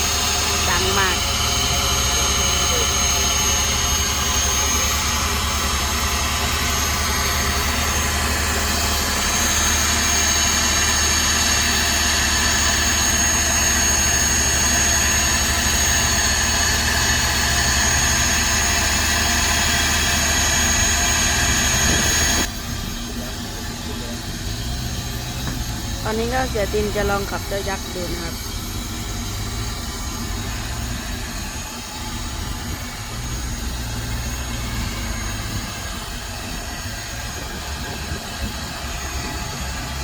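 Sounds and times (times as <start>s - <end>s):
heavy diesel machinery running: 0.0s - 40.0s
high whine: 0.0s - 40.0s.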